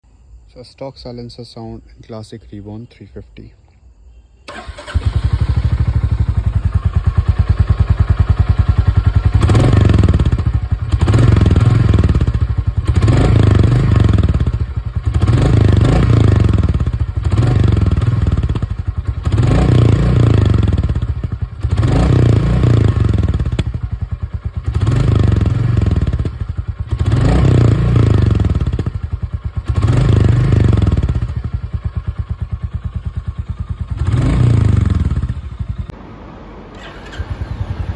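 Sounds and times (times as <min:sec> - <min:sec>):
motorcycle engine idling and revving: 0:04.5 - 0:37.9.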